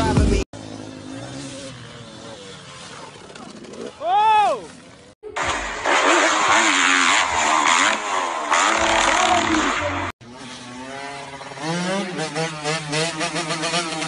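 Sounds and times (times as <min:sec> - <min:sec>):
dirt bike engine revving: 0:00.0 - 0:14.0
motorcycle engine accelerating: 0:00.0 - 0:14.0.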